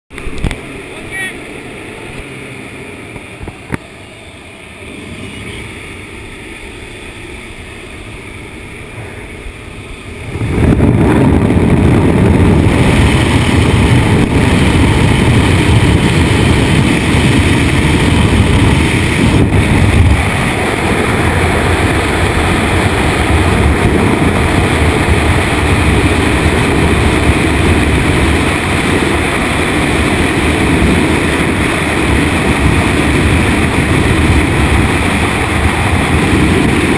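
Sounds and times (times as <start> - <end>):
airplane engine and cabin noise: 0.1 - 36.9
loud rush of wind: 0.1 - 36.9
wind buffeting microphone: 0.1 - 36.9.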